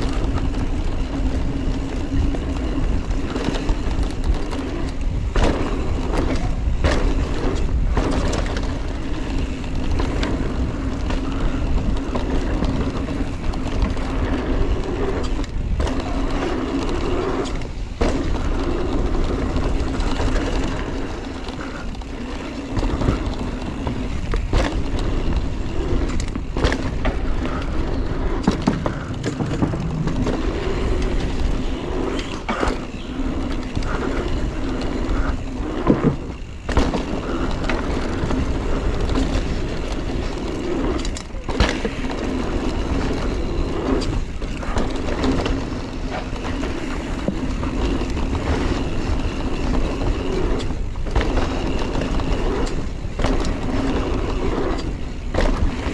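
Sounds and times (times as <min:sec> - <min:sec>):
bike knocking and rattling: 0:00.0 - 0:55.9
bike tyres rolling on dirt: 0:00.0 - 0:55.9.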